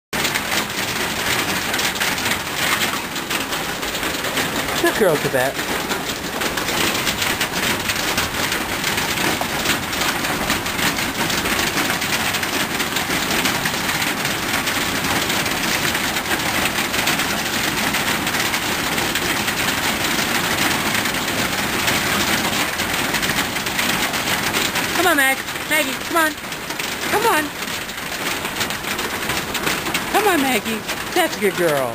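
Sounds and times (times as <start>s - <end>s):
hailstones pelting down: 0.2s - 31.9s.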